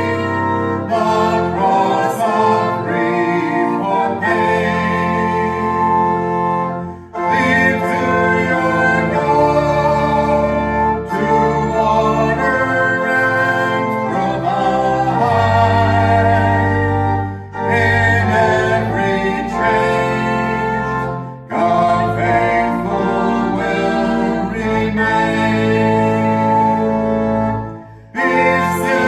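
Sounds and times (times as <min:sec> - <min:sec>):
hymn singing: 0:00.0 - 0:29.0
sustained instrumental chords: 0:00.0 - 0:29.0.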